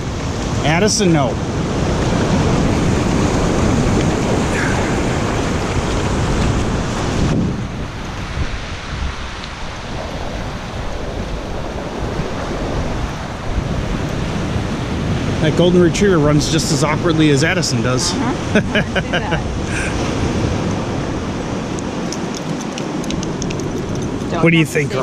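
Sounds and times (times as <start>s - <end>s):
ocean surf: 0.0s - 25.0s
wind on microphone: 0.0s - 25.0s.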